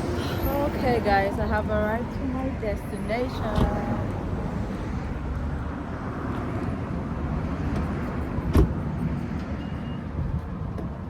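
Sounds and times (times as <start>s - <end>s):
car and traffic rumble: 0.0s - 11.0s.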